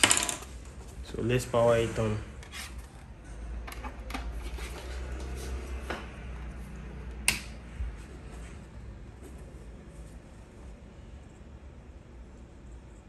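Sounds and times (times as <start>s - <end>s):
steady low hum: 0.3s - 13.0s.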